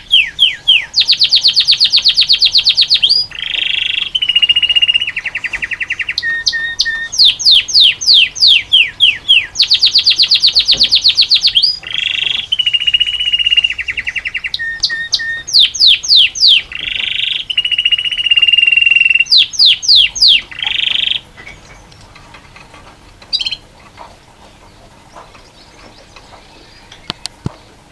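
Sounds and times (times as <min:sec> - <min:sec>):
canary singing: 0:00.0 - 0:27.9.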